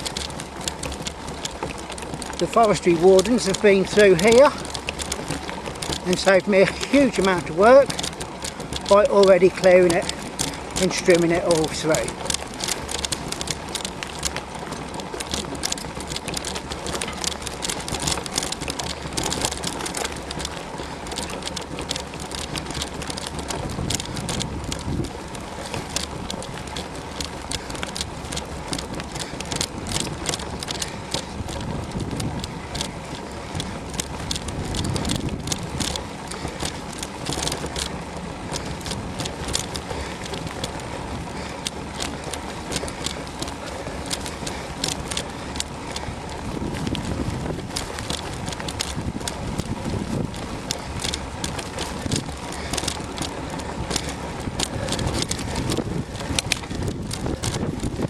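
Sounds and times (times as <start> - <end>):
bike clicking and rattling: 0.0 - 58.0
steady rumbling noise: 0.0 - 58.0.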